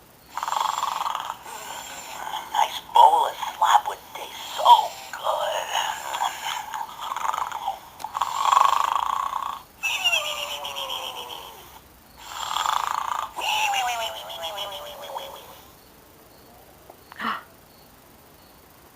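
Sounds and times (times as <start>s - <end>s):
toy pig snoring and whistling: 0.3s - 15.7s.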